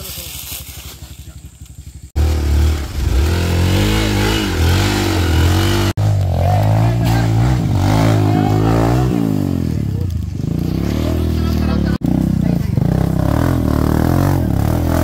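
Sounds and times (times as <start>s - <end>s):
motorcycle engine revving: 0.4s - 15.0s.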